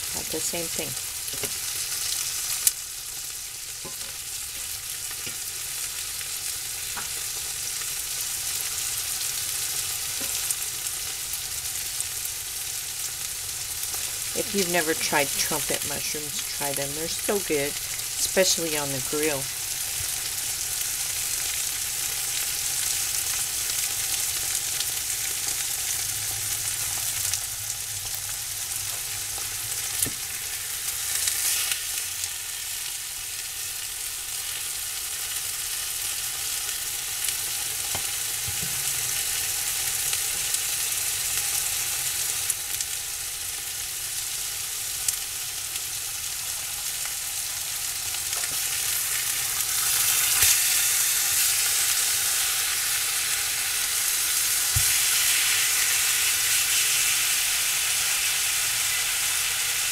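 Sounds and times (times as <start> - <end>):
steaks sizzling in a skillet: 0.0 - 59.9.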